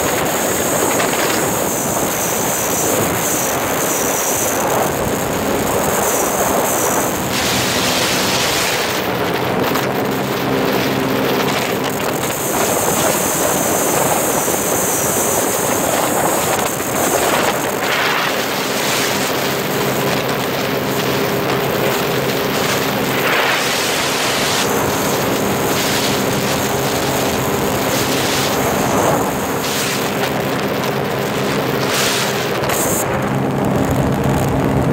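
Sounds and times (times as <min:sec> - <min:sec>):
water rushing past hull: 0:00.0 - 0:34.9
watercraft engine drone: 0:00.0 - 0:34.9
wind noise on microphone: 0:00.0 - 0:34.9.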